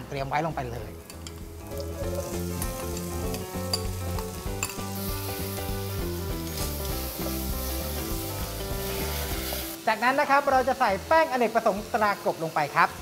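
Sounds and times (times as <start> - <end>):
background music: 0.0 - 13.0
vegetables sizzling in hot oil: 0.0 - 13.0.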